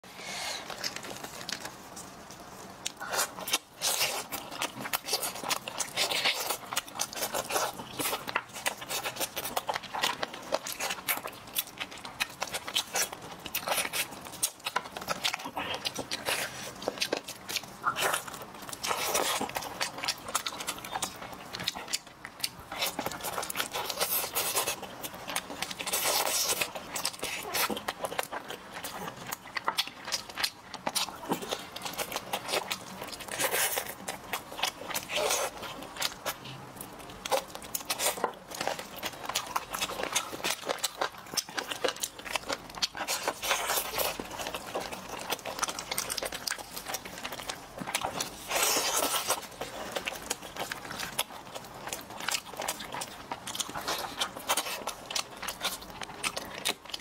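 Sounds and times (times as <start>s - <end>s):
meat tearing: 2.7s - 57.0s
wet chewing and lip smacking: 2.7s - 57.0s.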